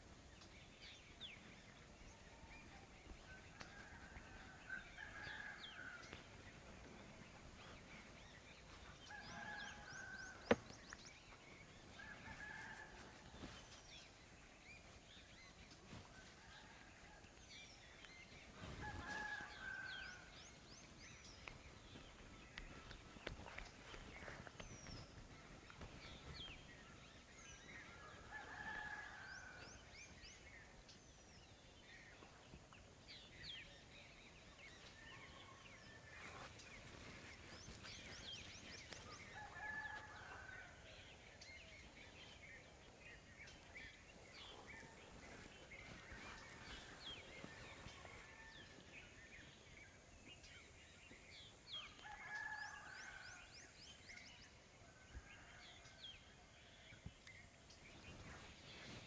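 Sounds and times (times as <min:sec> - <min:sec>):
small birds chirping: 0:00.0 - 0:53.2, 0:53.9 - 0:59.0
faint rooster crowing: 0:00.2 - 0:59.0.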